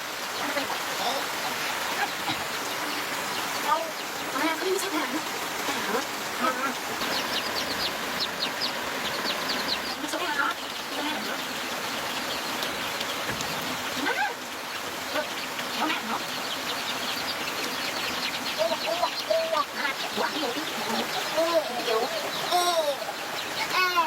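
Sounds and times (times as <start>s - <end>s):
rushing rain or water: 0.0s - 24.0s
high chirping bird calls: 0.3s - 13.3s, 13.9s - 24.0s.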